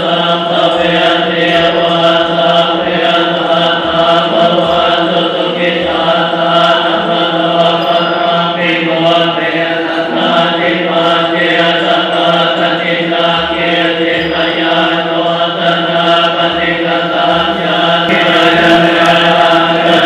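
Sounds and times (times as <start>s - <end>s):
group chanting in monotone: 0.0s - 20.0s.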